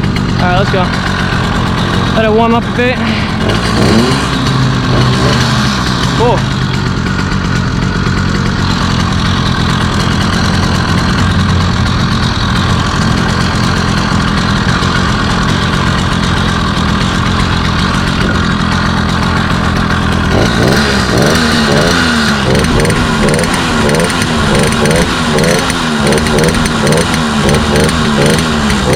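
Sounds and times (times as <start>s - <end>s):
two-stroke engine idling: 0.0s - 28.9s.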